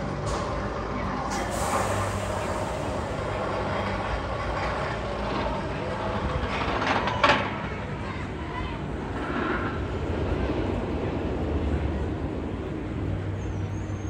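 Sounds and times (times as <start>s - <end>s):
steady mechanical rumble: 0.0s - 14.0s.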